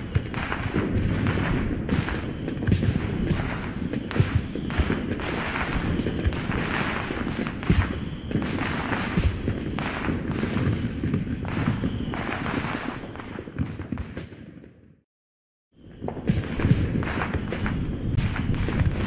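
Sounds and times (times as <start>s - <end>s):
firework crackle: 0.0s - 14.4s, 15.8s - 19.0s
firework shells bursting: 0.0s - 14.4s, 16.0s - 19.0s.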